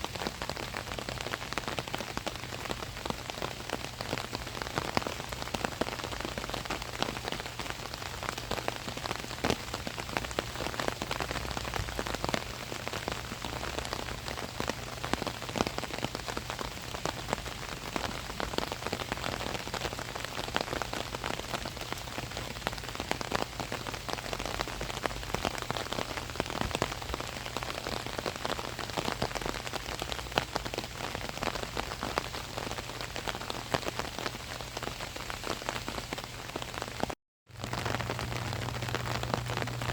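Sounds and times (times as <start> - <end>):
rain hiss: 0.0 - 39.9
raindrops hitting umbrella: 0.0 - 39.9.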